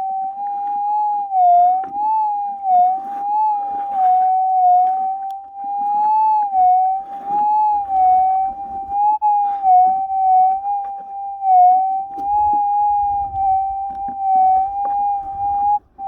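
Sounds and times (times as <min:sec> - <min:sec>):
metal detector threshold tone: 0:00.0 - 0:16.0
scraping dirt and gravel: 0:00.5 - 0:16.0.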